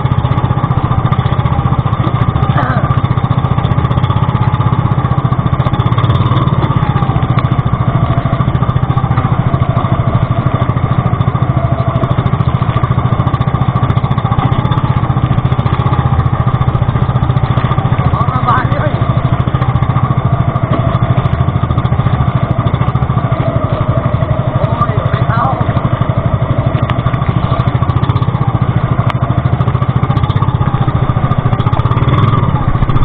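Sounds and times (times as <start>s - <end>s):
boat engine throbbing: 0.0s - 33.0s.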